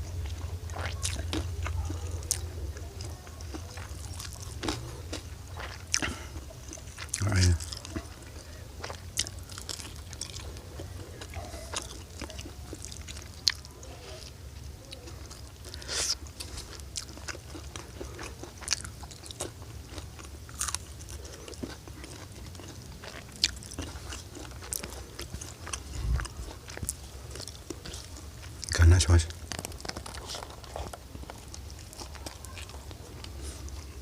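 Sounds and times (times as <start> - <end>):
chewing and crunching food: 0.0 - 34.0
steady low hum: 0.0 - 34.0.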